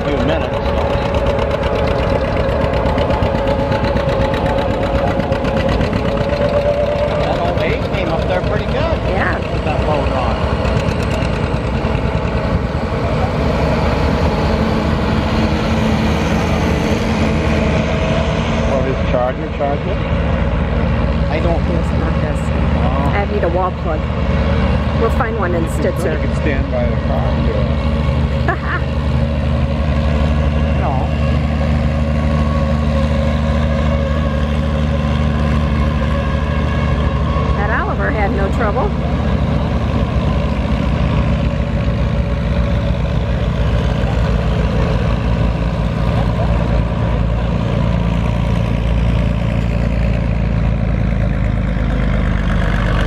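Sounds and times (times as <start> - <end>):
tractor engine rumbling: 0.0 - 53.0.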